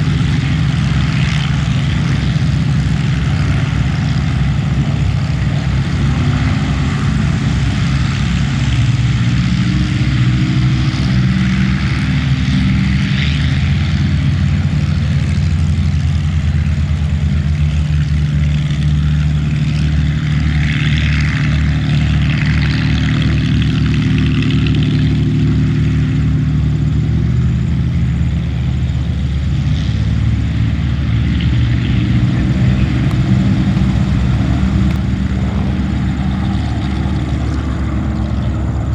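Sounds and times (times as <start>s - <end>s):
propeller aircraft engines droning: 0.0s - 38.9s.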